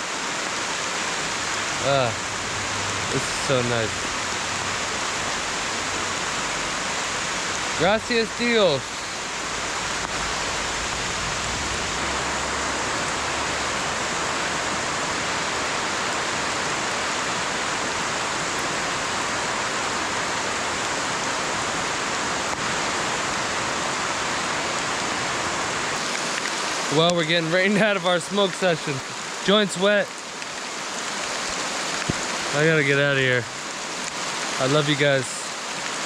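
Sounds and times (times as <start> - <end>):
heavy rain falling: 0.0 - 36.0
river flowing: 0.0 - 36.0.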